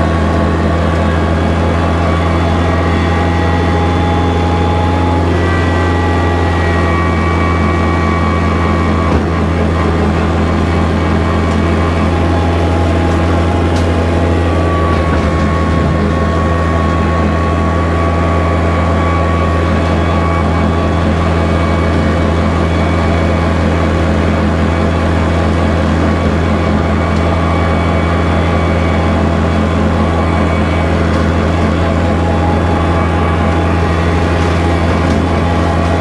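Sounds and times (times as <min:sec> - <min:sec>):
rotary cutter whine: 0:00.0 - 0:36.0
tractor diesel engine drone: 0:00.0 - 0:36.0.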